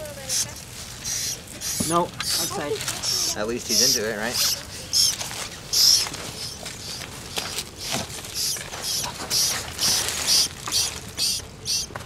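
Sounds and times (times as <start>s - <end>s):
rat squeaking: 0.0s - 12.0s.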